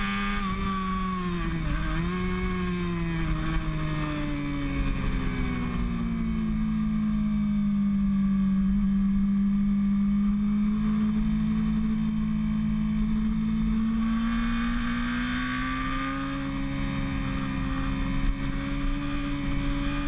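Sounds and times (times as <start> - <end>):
motorcycle engine revving high: 0.0 - 20.0.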